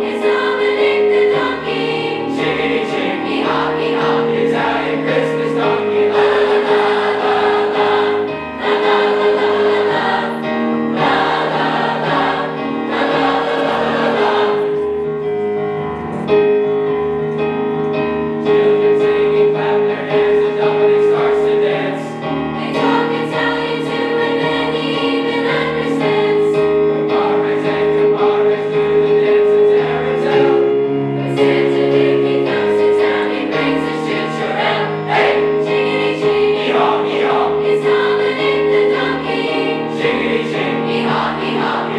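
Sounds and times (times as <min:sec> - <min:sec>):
choir singing: 0:00.0 - 0:15.4, 0:18.3 - 0:41.9.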